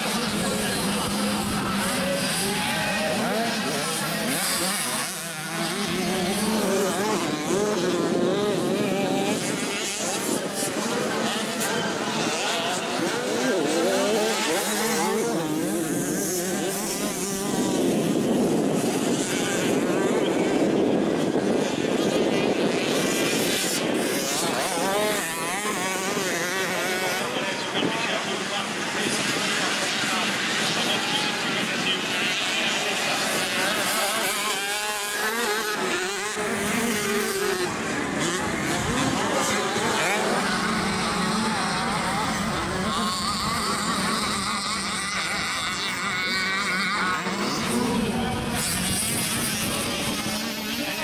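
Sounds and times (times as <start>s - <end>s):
motocross bikes revving: 0.0s - 51.0s.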